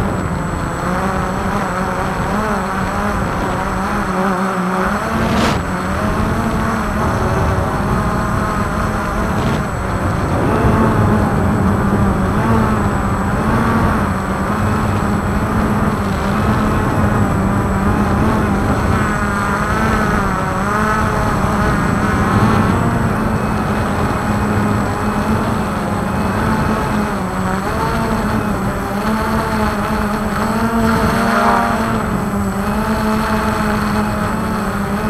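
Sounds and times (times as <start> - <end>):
drone propellers whirring: 0.0 - 35.0.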